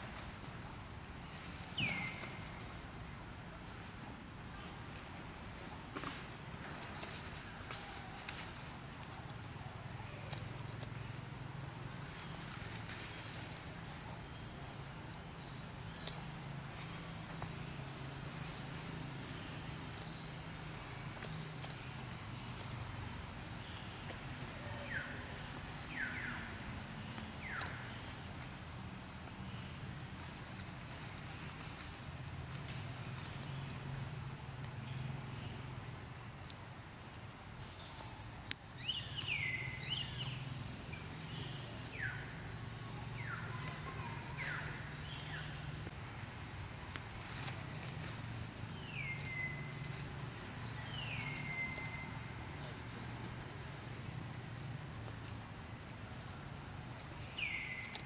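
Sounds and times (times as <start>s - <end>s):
birds calling: 6.0s - 58.0s.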